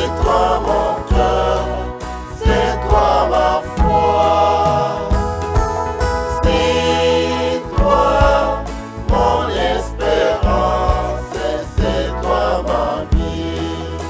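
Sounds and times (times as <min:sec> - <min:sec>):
backing music with deep bass: 0:00.0 - 0:14.0
group singing in harmony: 0:00.0 - 0:14.0.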